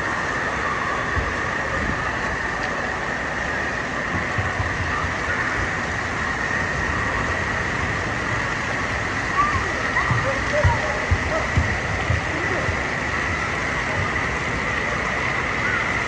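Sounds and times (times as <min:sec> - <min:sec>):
running and splashing water: 0:00.0 - 0:16.0.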